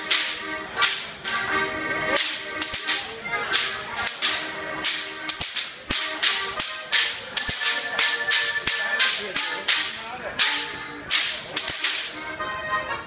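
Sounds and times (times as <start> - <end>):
whip cracking: 0.0 - 1.4, 2.1 - 12.2
band music: 0.0 - 13.0.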